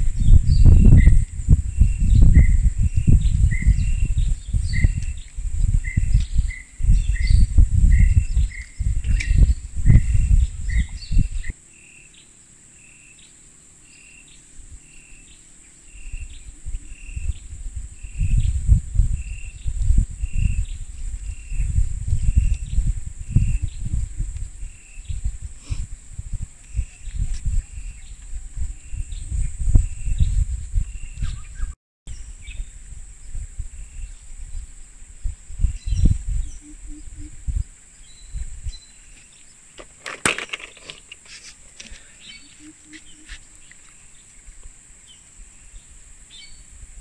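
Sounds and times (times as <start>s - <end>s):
wind rumbling on microphone: 0.0s - 11.6s, 13.9s - 47.0s.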